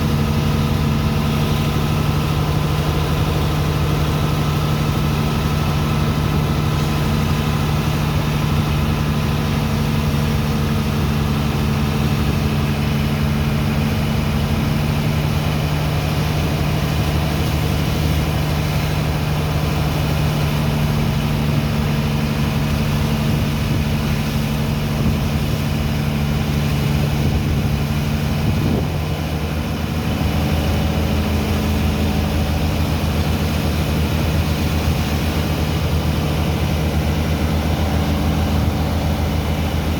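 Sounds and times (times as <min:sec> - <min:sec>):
heavy diesel engine humming: 0:00.0 - 0:39.9.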